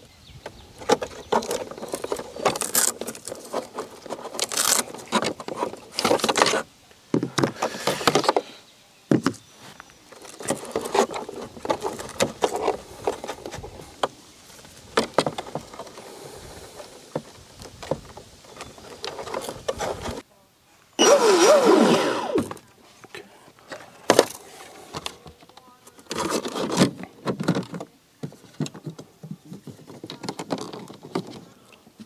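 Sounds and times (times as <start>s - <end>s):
rustling: 0.0s - 32.0s.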